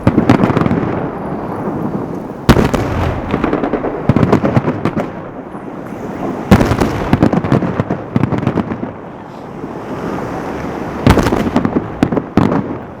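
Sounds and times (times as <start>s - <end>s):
firework shells bursting with bangs: 0.0s - 9.1s, 11.0s - 13.0s
firework crackling: 0.0s - 13.0s.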